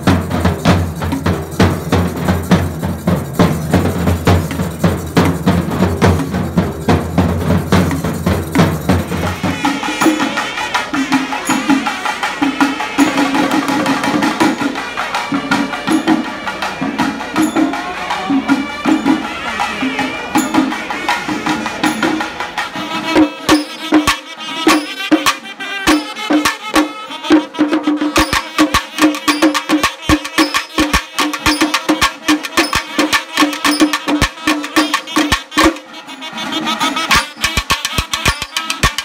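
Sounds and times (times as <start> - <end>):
mid-pitched drum pattern: 0.0 - 35.8, 37.1 - 39.0
sharp drum strokes: 0.0 - 39.0.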